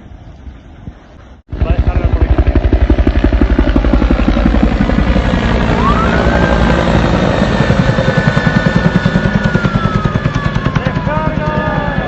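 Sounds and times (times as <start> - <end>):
helicopter rotor beating: 0.8 - 12.0.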